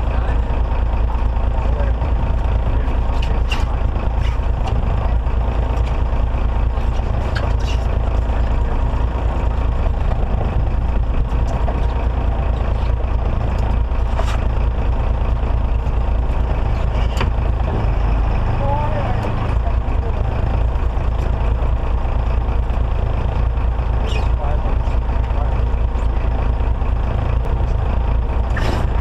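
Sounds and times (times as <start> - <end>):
boat engine rumble: 0.0 - 29.0.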